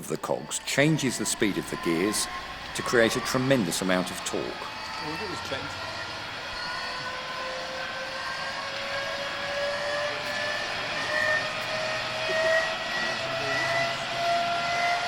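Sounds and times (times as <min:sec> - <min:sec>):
inertia starter whining: 0:00.0 - 0:15.0.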